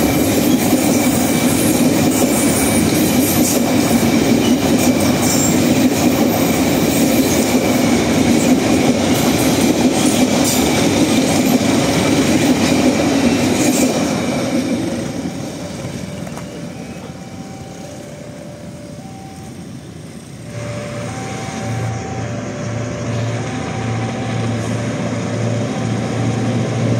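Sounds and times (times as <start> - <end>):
train wheels clacking on rails: 0.0 - 26.9.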